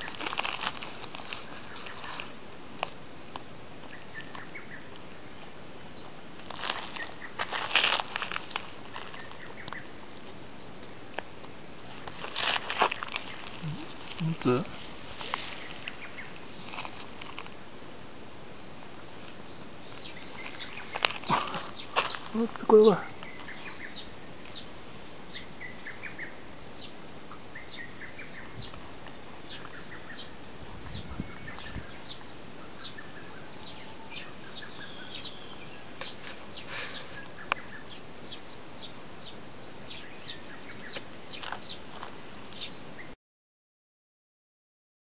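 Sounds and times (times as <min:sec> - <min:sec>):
background hiss: 0:00.0 - 0:43.2
small birds chirping: 0:00.0 - 0:43.2.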